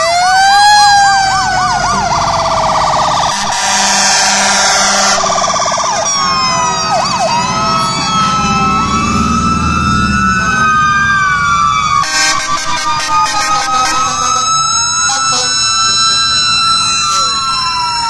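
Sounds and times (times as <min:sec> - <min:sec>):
fire engine sirens wailing: 0:00.0 - 0:18.0.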